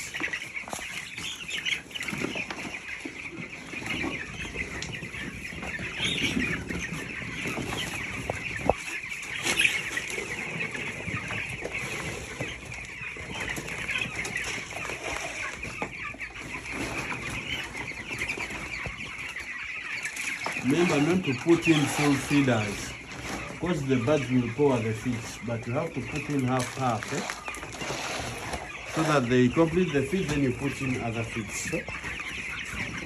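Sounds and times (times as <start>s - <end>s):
chicks cheeping: 0.0s - 33.0s.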